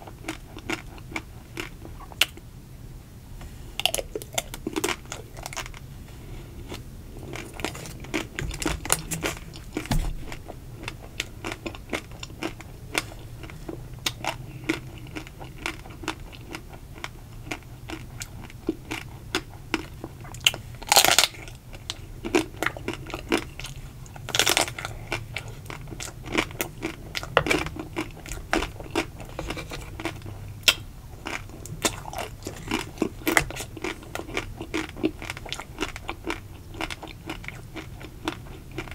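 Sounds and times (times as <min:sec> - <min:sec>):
chewing: 0:00.0 - 0:02.4, 0:03.8 - 0:05.9, 0:06.6 - 0:38.9.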